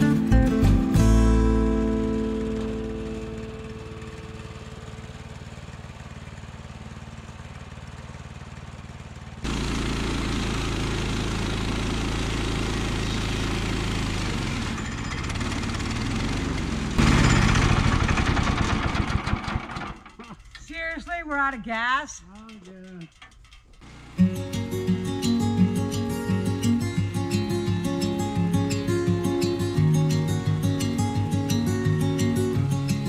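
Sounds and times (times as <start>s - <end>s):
gasoline engine running: 0.0s - 33.0s
engine sputtering: 1.4s - 29.6s.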